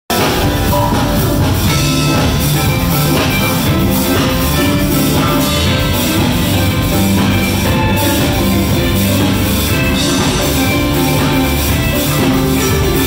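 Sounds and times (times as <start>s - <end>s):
drums: 0.0s - 13.0s
bass line: 0.1s - 13.0s
live rock band playing: 0.1s - 13.0s.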